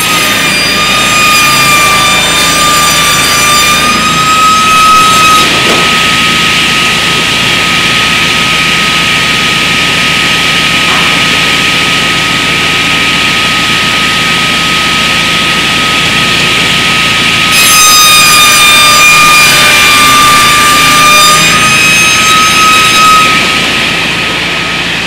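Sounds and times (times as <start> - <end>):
table saw cutting wood: 0.0 - 25.0.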